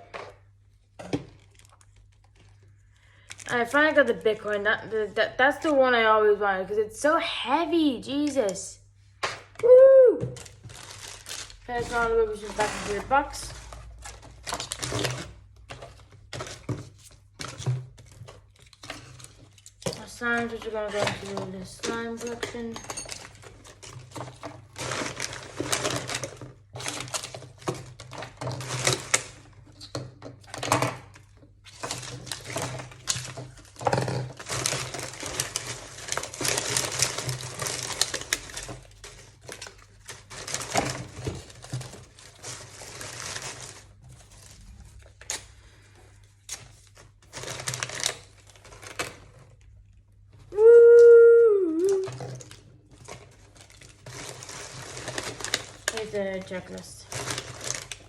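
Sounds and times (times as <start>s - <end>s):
plastic packaging rustling: 0.0s - 6.0s, 9.0s - 58.0s.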